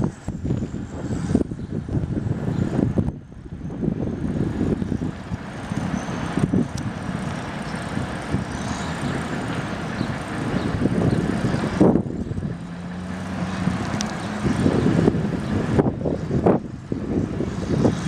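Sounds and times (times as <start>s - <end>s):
heavy vehicle engine rumbling: 0.0s - 18.0s.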